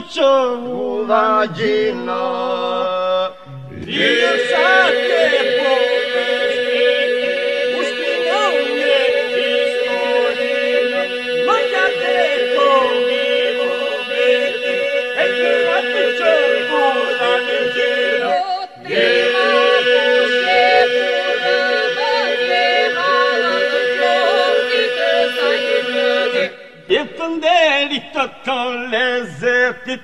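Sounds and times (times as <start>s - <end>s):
voices singing folk song: 0.0s - 30.0s.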